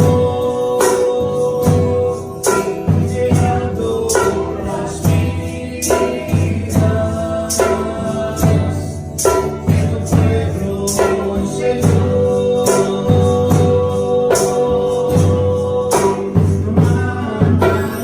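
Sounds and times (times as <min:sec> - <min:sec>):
people singing: 0:00.0 - 0:18.0
praise music with band: 0:00.0 - 0:18.0
tambourine: 0:00.0 - 0:18.0.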